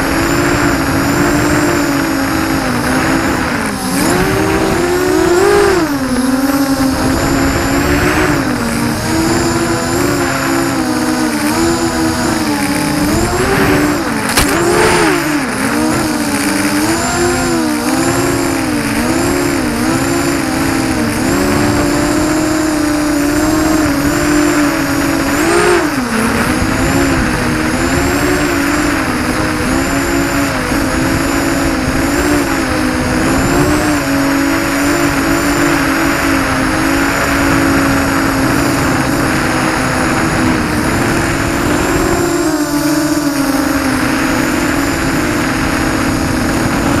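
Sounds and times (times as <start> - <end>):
quadcopter motors whining: 0.0 - 47.0.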